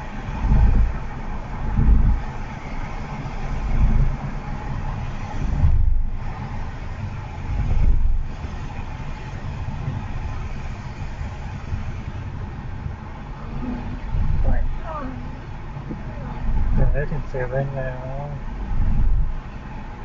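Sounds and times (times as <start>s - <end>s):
tyre and road noise: 0.0s - 20.0s.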